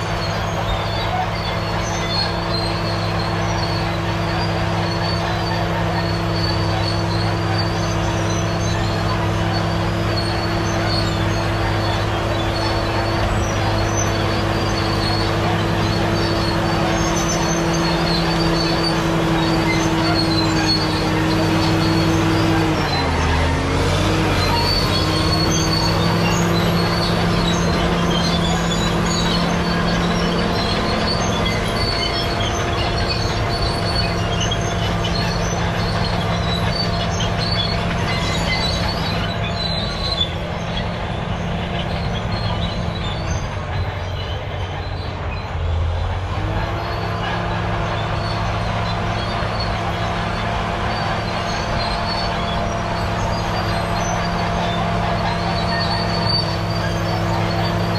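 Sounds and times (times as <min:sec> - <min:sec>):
bulldozer diesel engine: 0:00.0 - 0:57.9
steel tracks squealing and clanking: 0:00.0 - 0:57.9.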